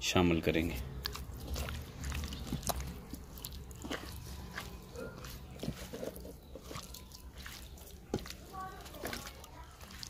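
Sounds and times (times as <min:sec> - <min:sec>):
hand squelching in marinade: 0:00.6 - 0:10.0.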